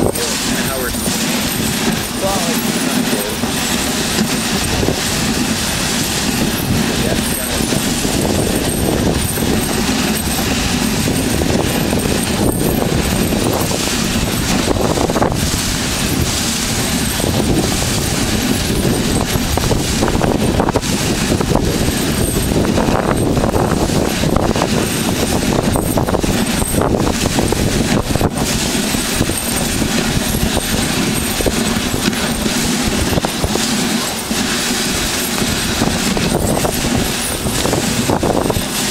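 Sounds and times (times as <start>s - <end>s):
sled runners scraping on snow: 0.0s - 38.9s.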